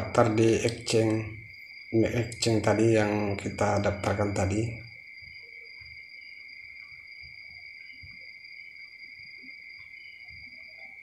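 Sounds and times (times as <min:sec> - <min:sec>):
high-pitched two-tone whine: 0:00.0 - 0:11.0.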